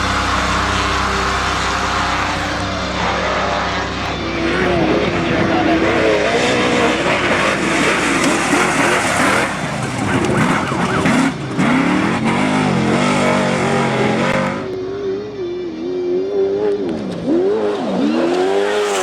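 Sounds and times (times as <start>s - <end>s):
race vehicle engines revving: 0.0s - 19.0s.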